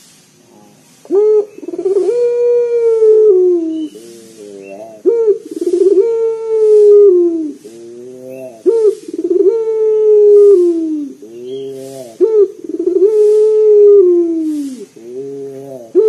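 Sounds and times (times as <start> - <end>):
dove cooing: 0.5 - 16.0.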